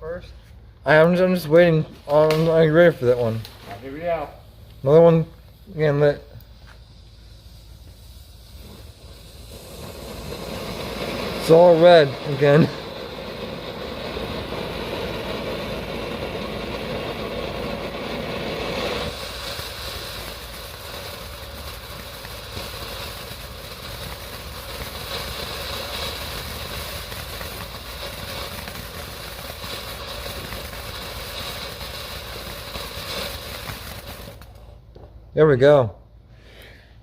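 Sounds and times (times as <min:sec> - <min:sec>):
firework crackles: 0:00.0 - 0:35.8
fountain firework hissing: 0:00.9 - 0:34.8.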